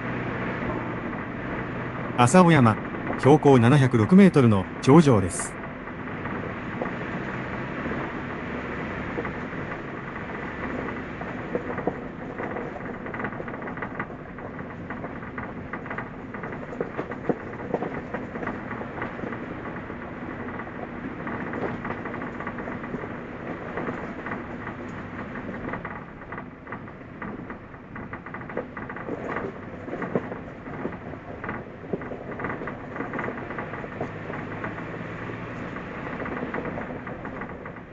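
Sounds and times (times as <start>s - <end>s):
engine and tyre rumble: 0.0s - 37.9s
small knocks and crackles from road: 5.6s - 37.9s.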